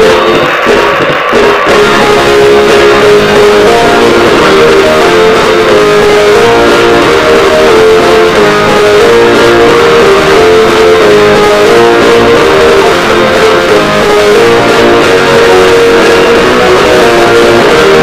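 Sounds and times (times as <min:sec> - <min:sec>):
instrumental theme music: 0:00.0 - 0:18.0.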